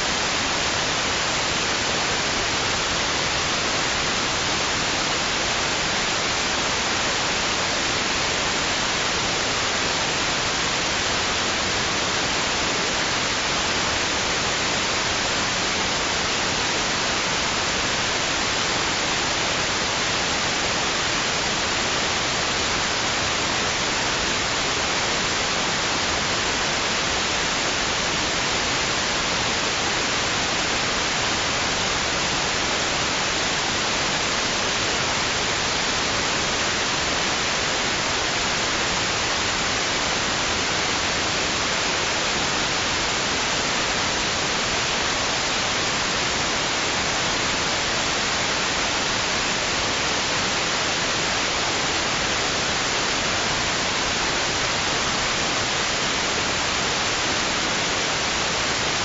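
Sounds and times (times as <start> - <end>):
steady white noise hiss: 0.0 - 59.0.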